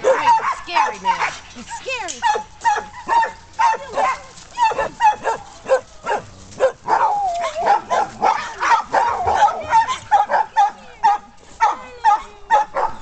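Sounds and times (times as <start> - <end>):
dog barking in high yips: 0.0 - 1.4, 2.2 - 13.0.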